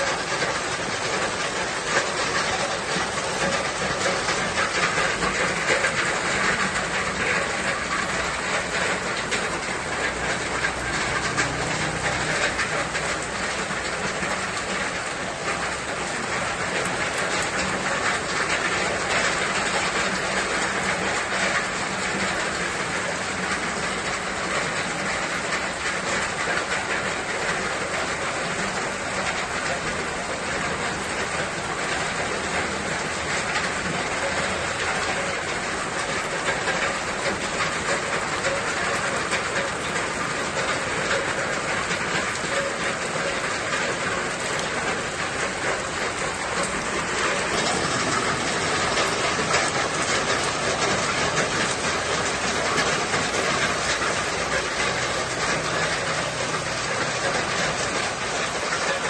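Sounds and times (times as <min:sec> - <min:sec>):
dense patter of raindrops: 0:00.0 - 0:59.0
steady rain: 0:00.0 - 0:59.0.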